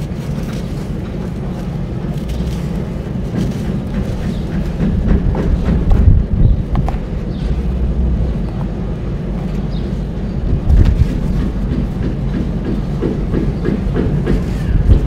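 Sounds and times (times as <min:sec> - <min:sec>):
dry sand crunching: 0:00.0 - 0:15.0.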